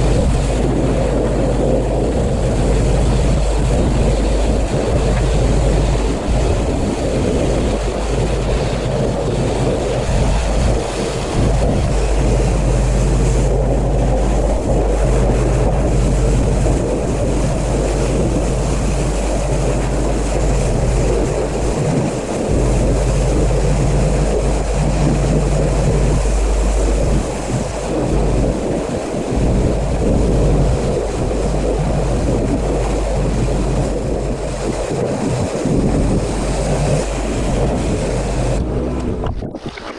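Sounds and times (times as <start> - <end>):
motor and pump hum: 0.0 - 39.9.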